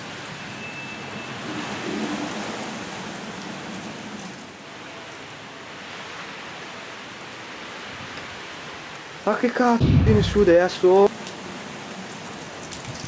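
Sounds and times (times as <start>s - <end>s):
rain falling steadily: 0.0s - 9.8s, 10.6s - 13.0s.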